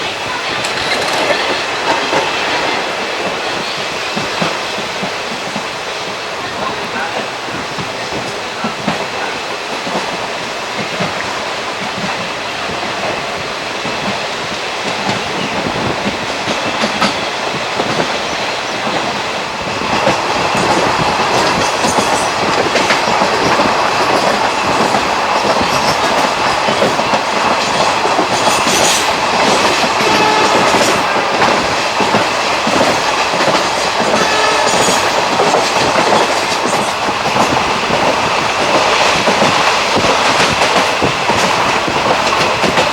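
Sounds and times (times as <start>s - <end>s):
train running rumble: 0.0s - 42.9s
train wheels clattering over joints: 0.0s - 42.9s.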